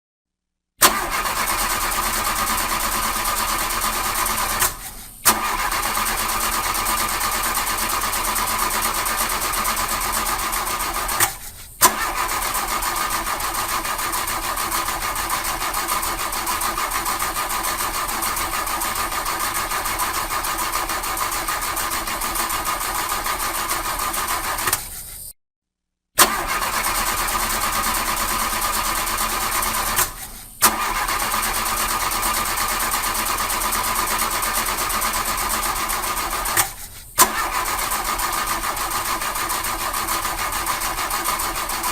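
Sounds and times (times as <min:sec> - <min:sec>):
starter motor cranking engine: 0:00.8 - 0:25.3, 0:26.2 - 0:41.9.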